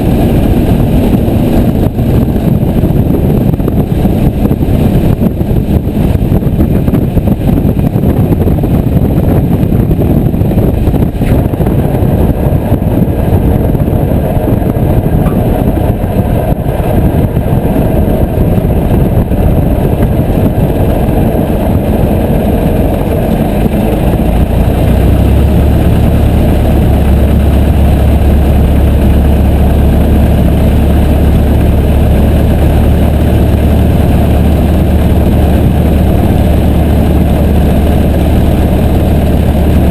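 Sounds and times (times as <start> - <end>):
light aircraft engine running: 0.0 - 39.9.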